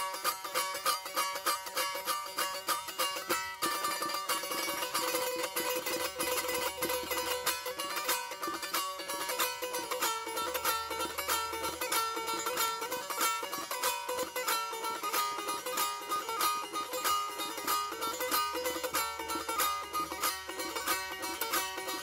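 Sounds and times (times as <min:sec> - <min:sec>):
long-necked lute plucked melody: 0:00.0 - 0:22.0.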